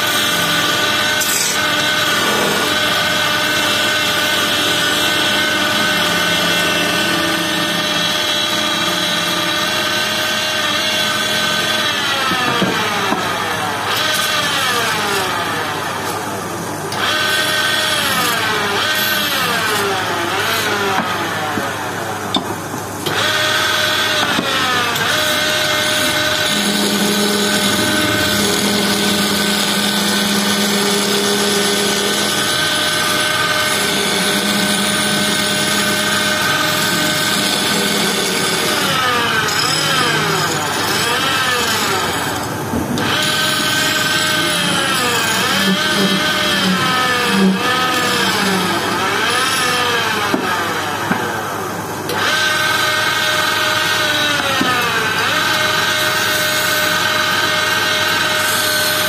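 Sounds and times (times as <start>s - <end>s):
chisel cutting spinning wood: 0.0s - 16.1s, 16.9s - 59.0s
wood lathe whining: 0.0s - 59.0s.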